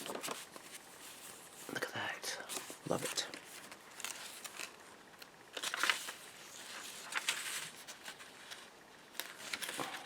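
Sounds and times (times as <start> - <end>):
paper rustling and sliding: 0.0 - 1.8, 2.5 - 4.8, 5.5 - 10.0.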